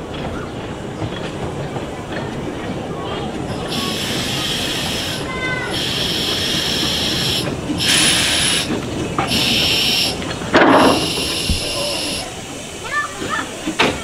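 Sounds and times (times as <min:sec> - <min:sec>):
steam locomotive hissing steam: 0:00.9 - 0:14.0.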